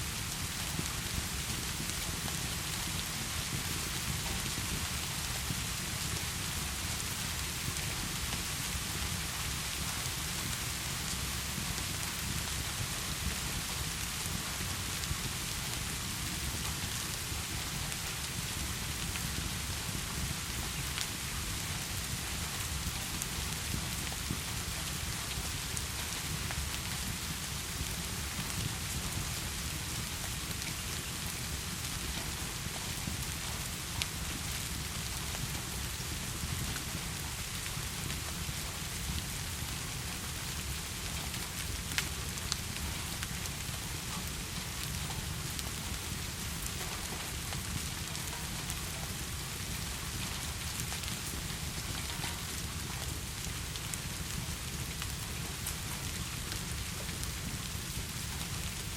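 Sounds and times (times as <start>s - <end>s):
heavy rain hiss: 0.0s - 58.9s.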